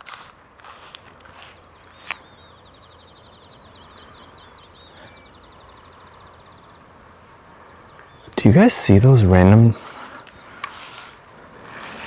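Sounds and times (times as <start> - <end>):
bird singing rapid trill: 1.4 - 12.0.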